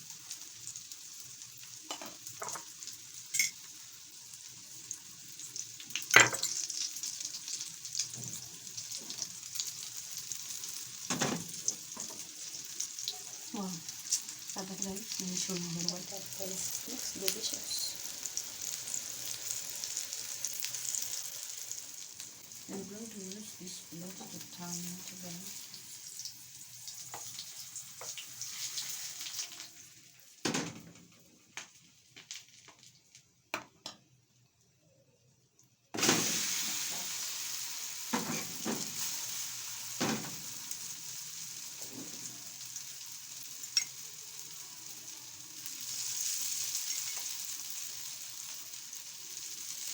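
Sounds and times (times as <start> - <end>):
food sizzling in a frying pan: 0.0 - 34.4, 35.9 - 49.9.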